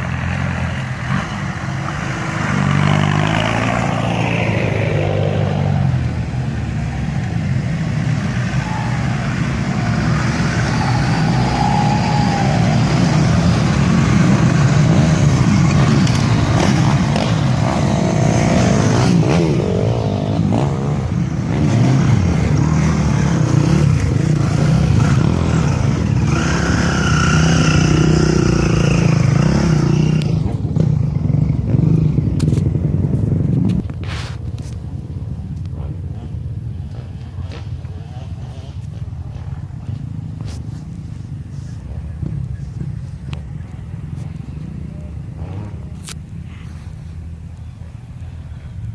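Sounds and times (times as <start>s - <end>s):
engines revving: 0.0s - 47.6s
off-road vehicles driving past: 0.0s - 48.9s.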